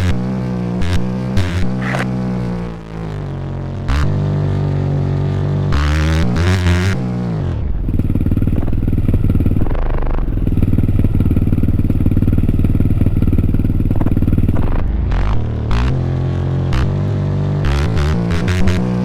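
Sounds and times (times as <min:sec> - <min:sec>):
dirt bike engine running hard: 0:00.0 - 0:19.0.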